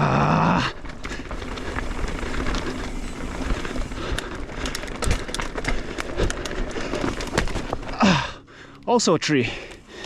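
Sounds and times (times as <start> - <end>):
bike clicking and rattling: 0.0 - 10.0
bike tyres rushing over dirt: 0.0 - 10.0.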